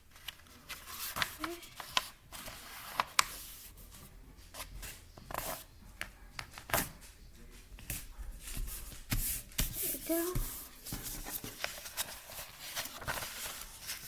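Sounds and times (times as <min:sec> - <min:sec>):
paper rustling and crinkling: 0:00.1 - 0:05.7, 0:07.8 - 0:14.0.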